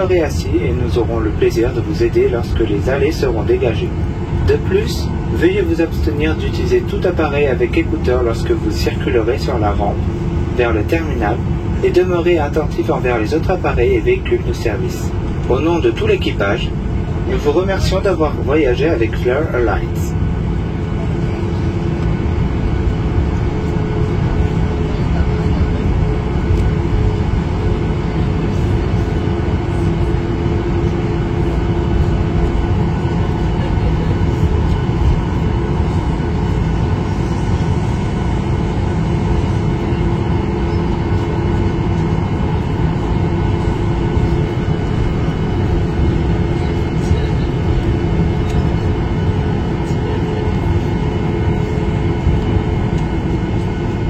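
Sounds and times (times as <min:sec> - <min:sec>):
airliner cabin rumble: 0:00.0 - 0:54.0
steady hums: 0:00.0 - 0:54.0.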